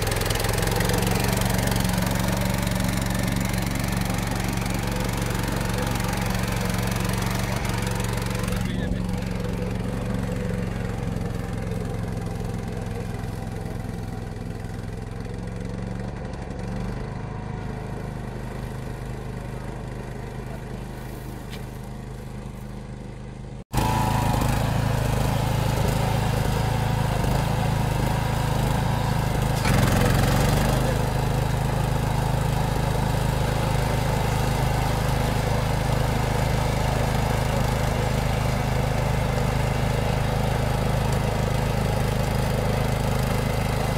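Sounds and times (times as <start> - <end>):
slope mower engine close: 0.0 - 43.9
tractor mower engine: 0.0 - 43.9.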